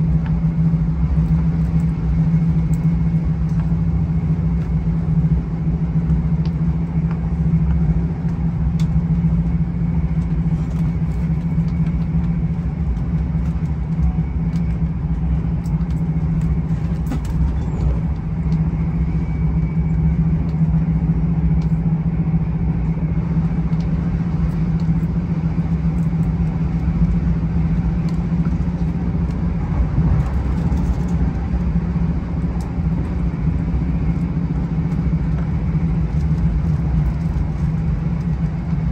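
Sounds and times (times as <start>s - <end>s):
diesel train engine drone: 0.0s - 38.9s.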